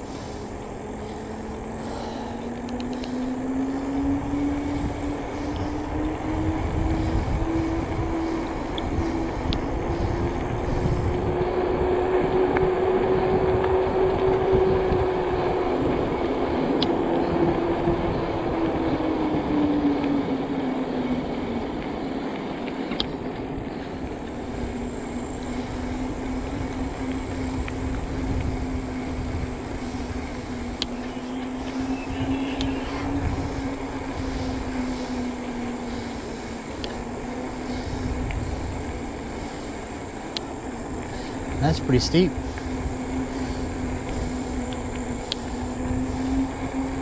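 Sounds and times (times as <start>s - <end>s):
electric bike motor whining: 0.0s - 47.0s
tyres on pavement: 0.0s - 47.0s
wind rumble: 0.0s - 47.0s.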